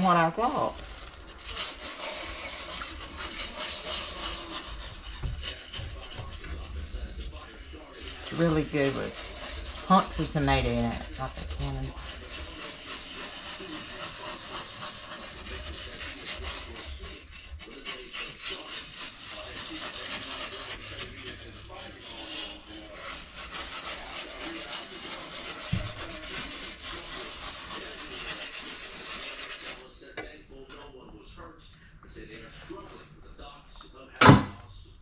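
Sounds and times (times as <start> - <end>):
metal utensil scraping skillet: 0.0 - 29.9.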